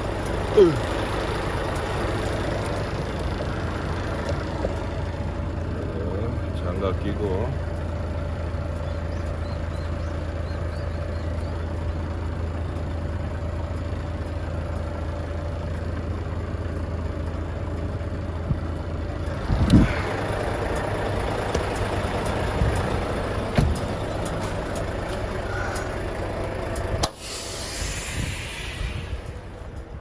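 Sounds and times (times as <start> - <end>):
engine clatter: 0.0 - 30.0
truck engine idling: 0.0 - 30.0.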